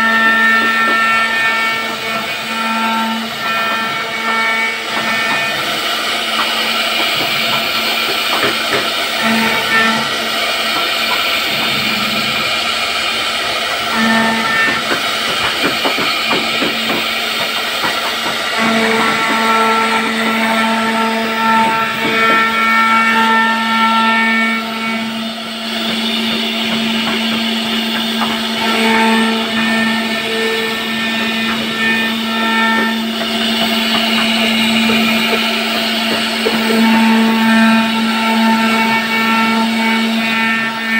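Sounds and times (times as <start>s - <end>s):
router spindle whine: 0.0s - 40.9s.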